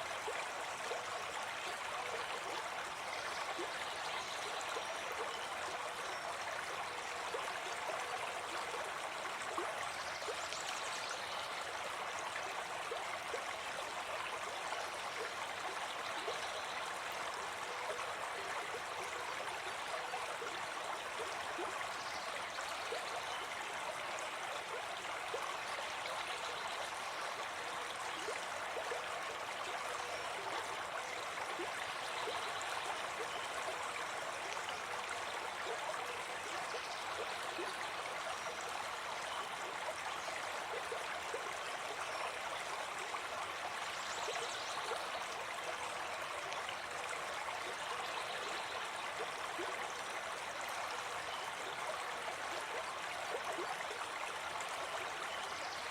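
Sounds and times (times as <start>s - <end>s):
brook water flowing: 0.0s - 55.9s.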